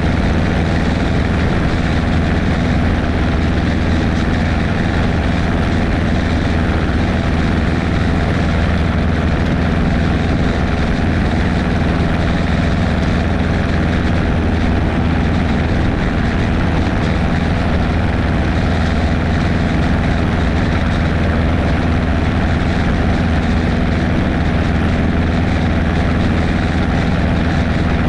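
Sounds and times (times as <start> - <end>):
propeller aircraft engine droning: 0.0 - 28.0.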